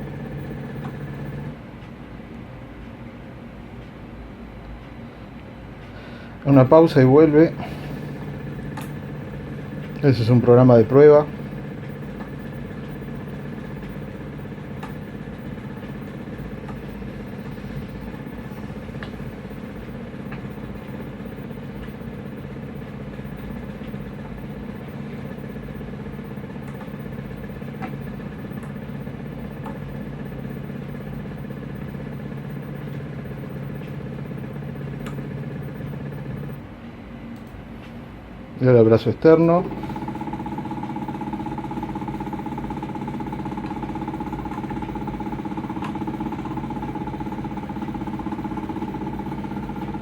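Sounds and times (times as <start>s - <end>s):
motor drive mechanical hum: 0.0s - 50.0s.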